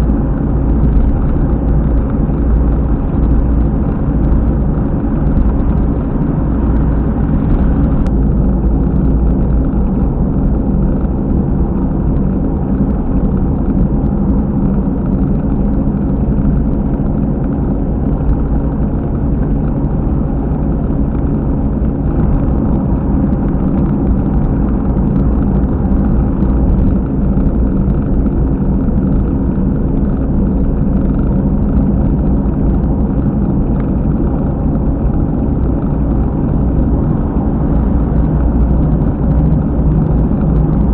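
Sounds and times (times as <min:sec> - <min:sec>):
car cabin road noise: 0:00.0 - 0:40.9
low rumble from wheel bearing: 0:00.0 - 0:40.9.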